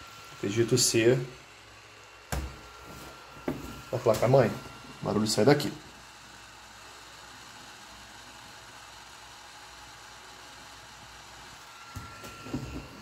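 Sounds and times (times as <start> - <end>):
computer fan whirring: 0.0 - 13.0.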